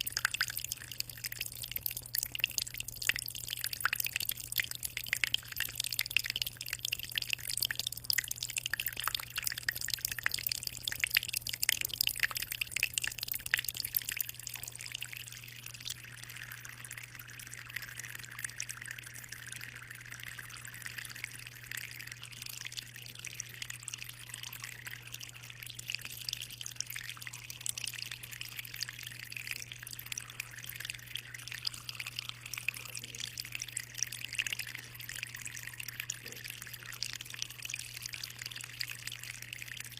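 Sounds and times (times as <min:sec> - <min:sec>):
water trickling in aquarium: 0:00.0 - 0:39.9.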